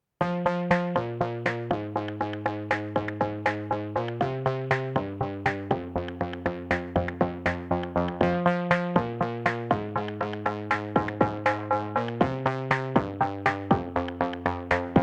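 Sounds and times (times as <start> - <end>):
synthesizer chords: 0.2 - 15.0
fast drum-machine beat: 0.7 - 15.0.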